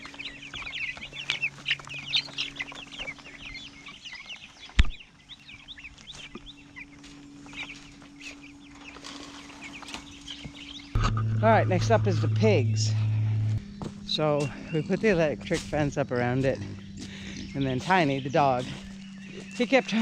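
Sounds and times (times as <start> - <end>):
turkey poults peeping: 0.0 - 20.0.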